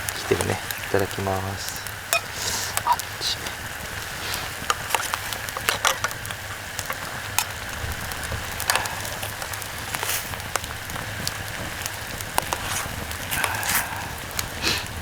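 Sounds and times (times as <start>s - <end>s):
food sizzling: 0.0s - 15.0s
wood fire crackling: 0.0s - 15.0s.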